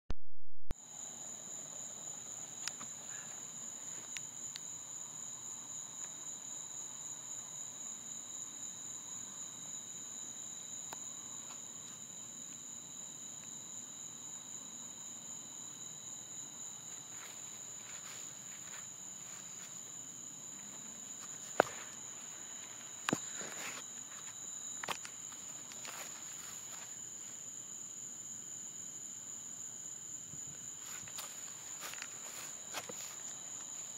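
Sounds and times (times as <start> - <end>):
crickets trilling: 0.8 - 33.9.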